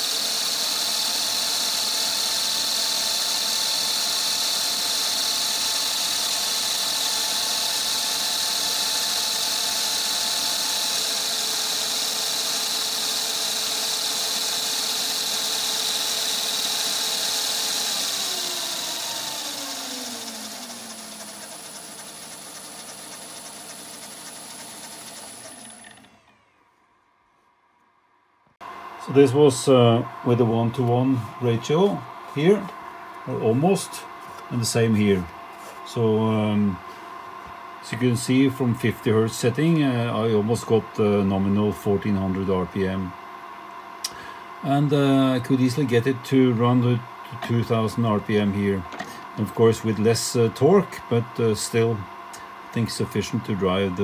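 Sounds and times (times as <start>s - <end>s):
lathe running with high whine: 0.0s - 26.5s, 28.6s - 43.6s, 44.4s - 54.0s.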